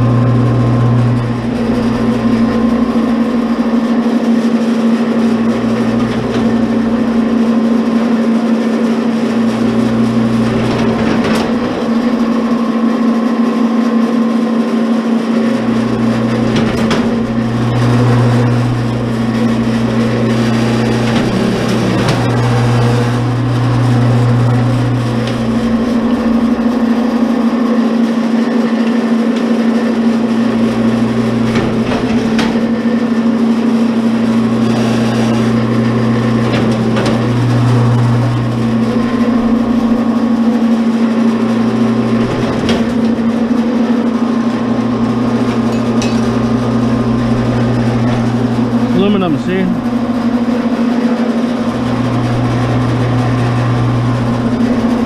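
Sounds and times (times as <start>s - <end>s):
deeper motor hum under load: 0.0s - 55.0s
wire stripper motor humming: 0.0s - 55.0s.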